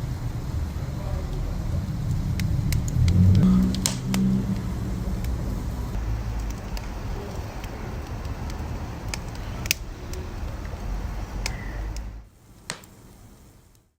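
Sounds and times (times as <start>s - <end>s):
fire crackling pops: 0.0s - 13.9s
wood fire roaring: 0.0s - 13.9s.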